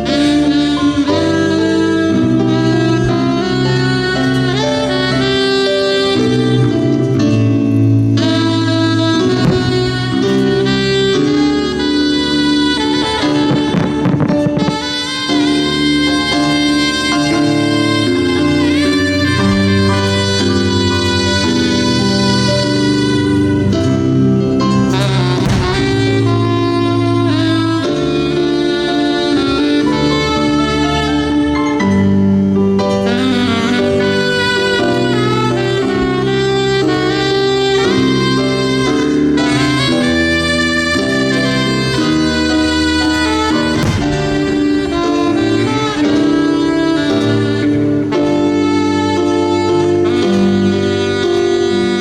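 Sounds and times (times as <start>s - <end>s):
jazz band playing: 0.0s - 52.0s
saxophone melody: 0.0s - 52.0s.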